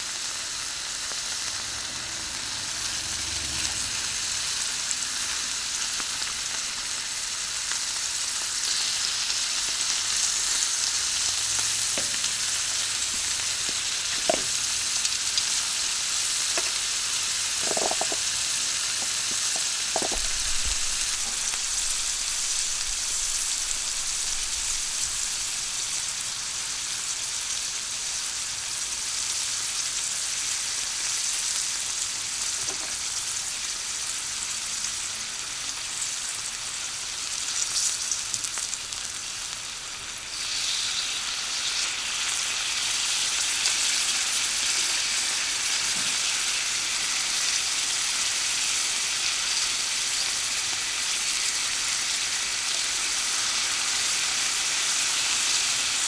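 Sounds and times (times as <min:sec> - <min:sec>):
meat sizzling on a griddle: 0:00.0 - 0:56.0.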